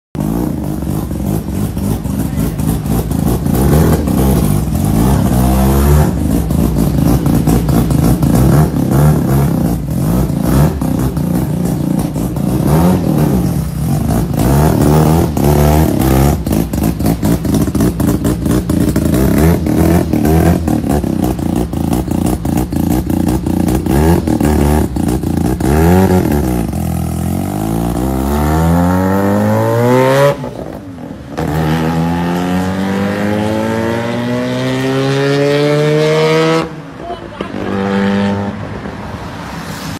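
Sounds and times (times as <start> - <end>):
car engine revving: 0.2 - 39.9.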